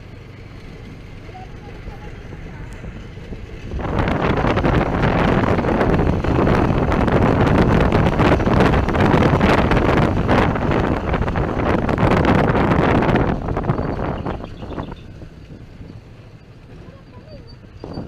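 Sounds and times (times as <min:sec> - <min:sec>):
vehicle running: 0:00.0 - 0:18.0
wind buffeting microphone: 0:00.3 - 0:18.0.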